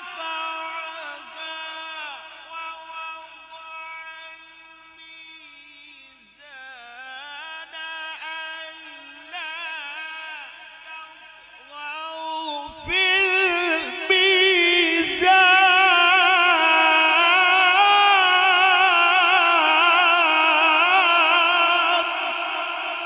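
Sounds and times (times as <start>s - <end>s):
man reciting through microphone: 0.0s - 23.0s.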